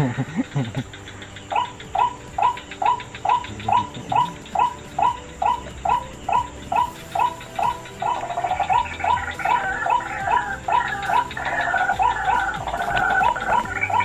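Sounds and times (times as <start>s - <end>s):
insect chirping: 0.0s - 14.0s
recorded bird call through speaker: 0.0s - 14.0s.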